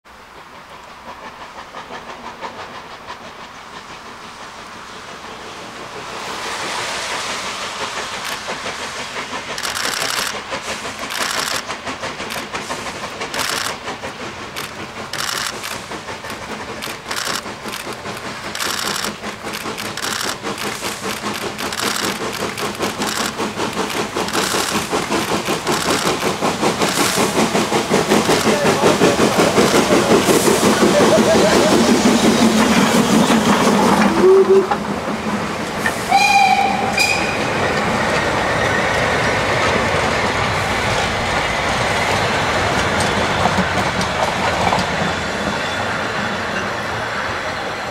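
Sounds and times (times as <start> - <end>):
rumble of train wheels: 0.1 - 47.9
steam locomotive exhaust chuffs: 0.1 - 47.9.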